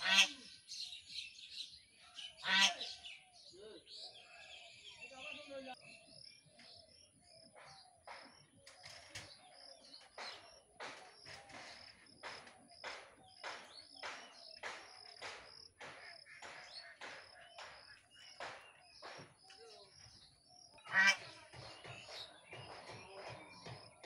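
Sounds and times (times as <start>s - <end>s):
birds chirping harshly: 0.0s - 24.0s.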